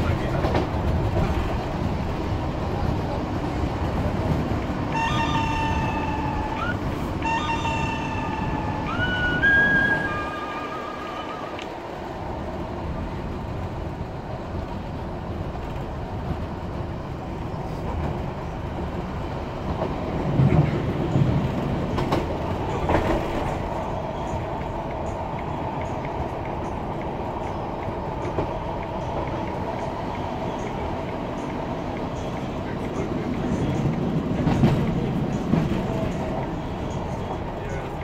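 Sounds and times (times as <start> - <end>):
train clanks: 0.0 - 38.0
train wheels rumbling on track: 0.0 - 38.0
train diesel engine droning: 0.9 - 15.0, 16.2 - 38.0.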